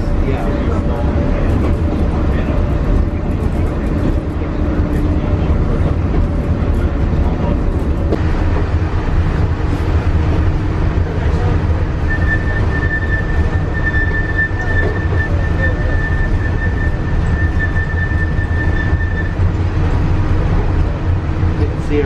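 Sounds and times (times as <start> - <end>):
monorail rumble: 0.0 - 22.0.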